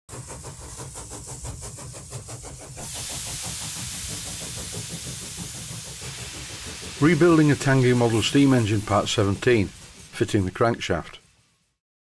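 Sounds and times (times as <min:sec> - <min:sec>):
steam engine chuffing: 0:00.1 - 0:11.8
steam hissing: 0:00.1 - 0:11.8.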